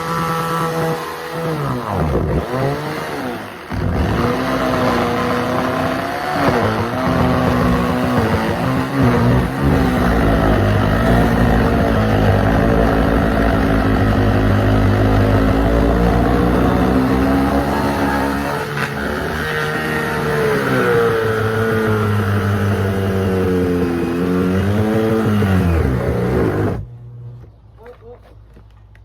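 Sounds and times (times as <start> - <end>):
chainsaw cutting under load: 0.0 - 26.9.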